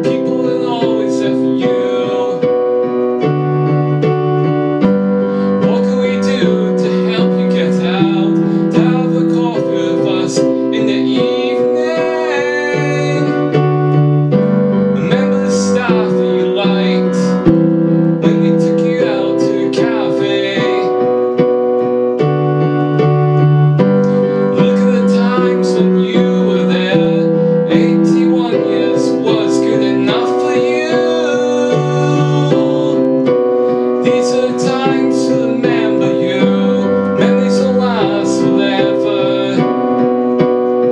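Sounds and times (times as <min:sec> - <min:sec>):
man singing: 0:00.0 - 0:03.2, 0:05.4 - 0:14.1, 0:15.0 - 0:17.5, 0:18.2 - 0:21.4, 0:23.9 - 0:40.4
electric keyboard piano chords: 0:00.0 - 0:40.9.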